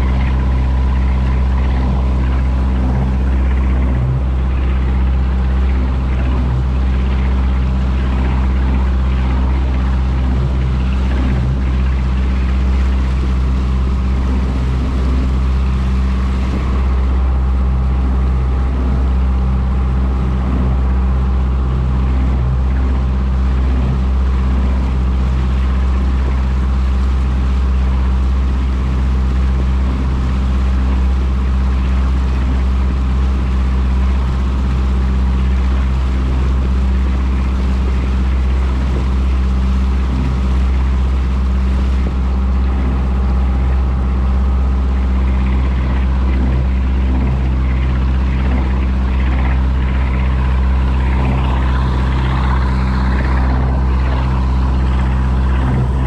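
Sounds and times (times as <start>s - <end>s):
motorboat engine droning: 0.0s - 56.0s
water rushing in wake: 0.0s - 56.0s.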